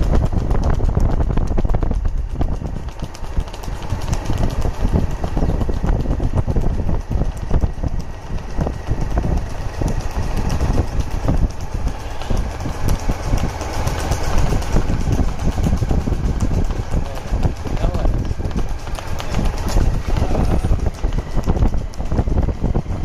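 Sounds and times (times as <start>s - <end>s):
hooves clattering on asphalt: 0.0s - 23.0s
vehicle engine rumble: 0.0s - 23.0s
wind: 0.0s - 23.0s.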